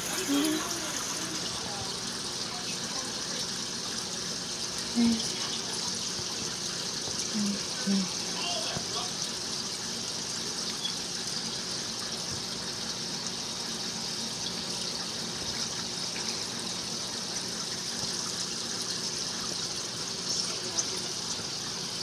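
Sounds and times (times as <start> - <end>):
aquarium air stone bubbling: 0.0 - 22.0.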